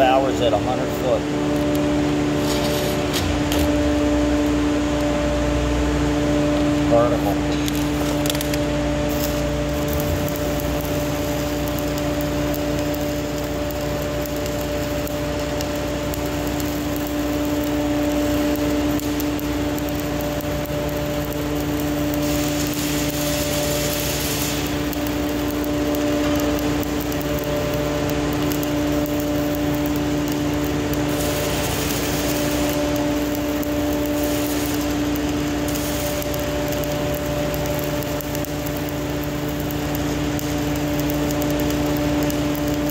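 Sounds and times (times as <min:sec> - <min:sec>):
steady machine hum: 0:00.0 - 0:42.9
welding arc crackling and hissing: 0:00.0 - 0:42.9.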